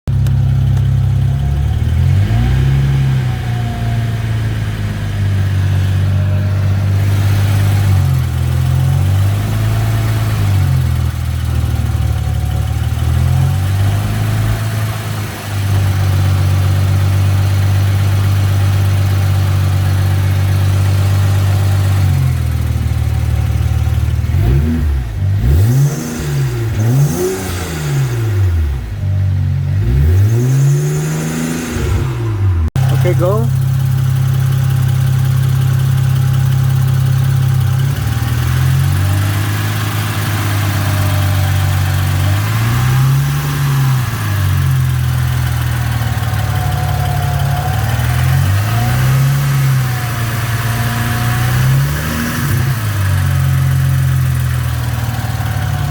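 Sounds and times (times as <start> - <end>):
car engine revving: 0.1 - 55.9.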